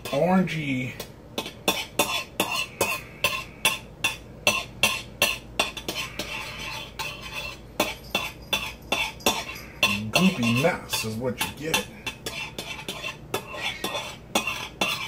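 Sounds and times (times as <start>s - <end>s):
metal utensil scraping a dish: 1.4s - 15.0s.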